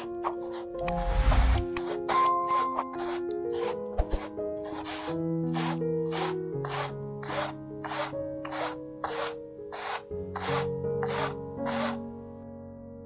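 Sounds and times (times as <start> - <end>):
paintbrush strokes on canvas: 0.0 - 12.0
soft background music: 0.0 - 13.0.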